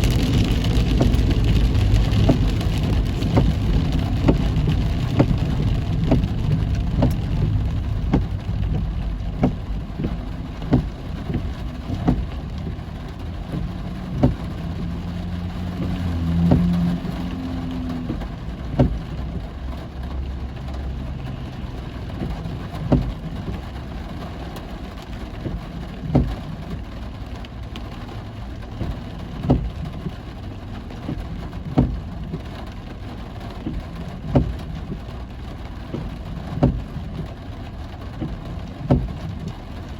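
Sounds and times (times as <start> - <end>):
heavy rain on a car: 0.0 - 39.9
road and engine rumble: 0.0 - 39.9.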